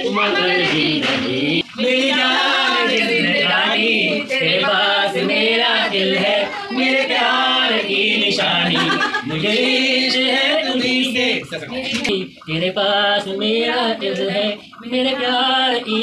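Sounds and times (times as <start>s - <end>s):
group of voices singing unaccompanied: 0.0s - 16.0s.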